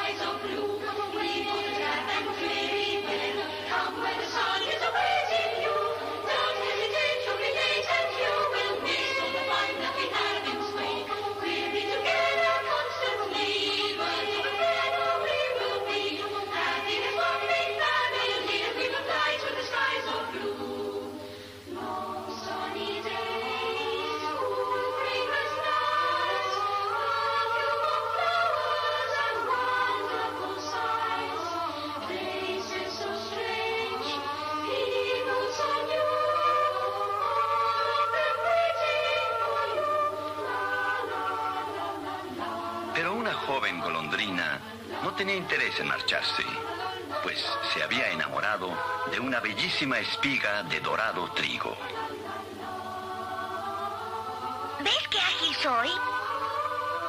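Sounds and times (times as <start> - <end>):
wordless choir singing: 0.0 - 57.0.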